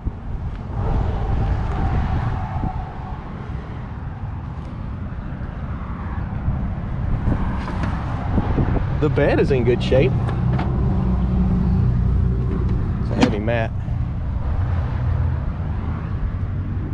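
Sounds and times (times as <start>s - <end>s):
motor vehicle rumbling: 0.0s - 16.9s.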